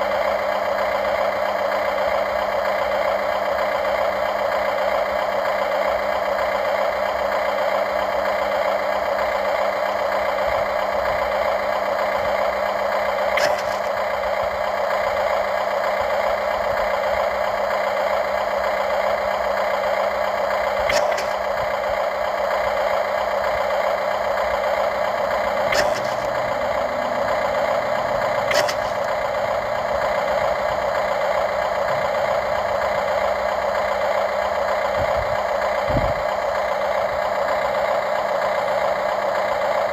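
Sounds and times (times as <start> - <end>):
motor whine: 0.0 - 39.1.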